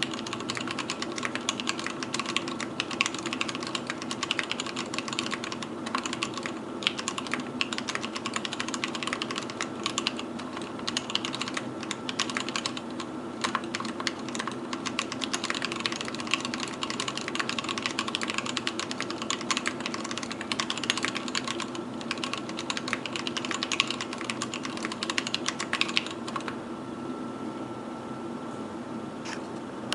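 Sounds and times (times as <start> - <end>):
fast typing on mechanical keyboard: 0.0 - 26.6
steady hum: 0.0 - 29.9.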